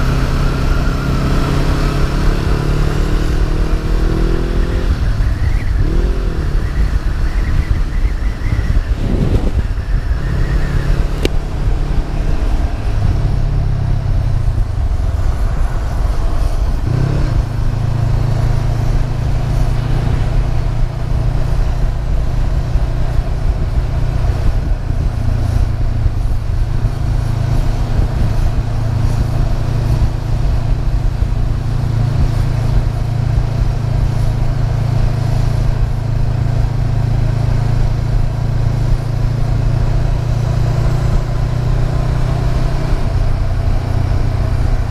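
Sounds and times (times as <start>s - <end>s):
low wind rumble: 0.0s - 44.9s
motorcycle engine running: 0.0s - 44.9s.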